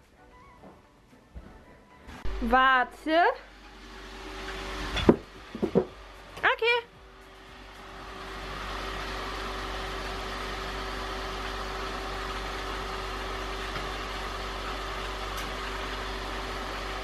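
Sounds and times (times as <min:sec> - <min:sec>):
appliance machine hum: 0:02.1 - 0:17.0.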